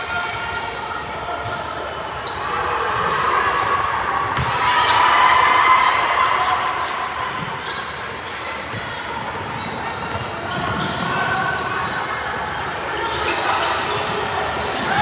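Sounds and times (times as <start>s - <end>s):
crowd of spectators' voices: 0.0s - 15.0s.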